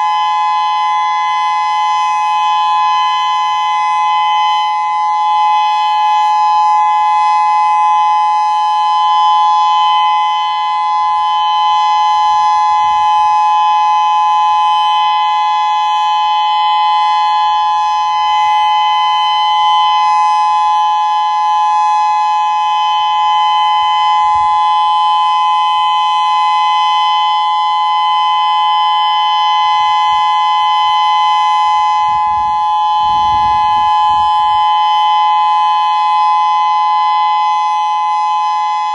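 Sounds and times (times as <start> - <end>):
outdoor warning siren steady tone: 0.0 - 38.9.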